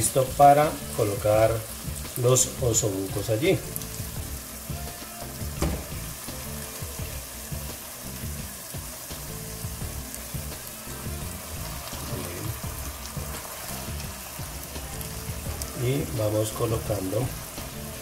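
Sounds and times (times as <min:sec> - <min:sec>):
onions sizzling in a pot: 0:00.0 - 0:18.0.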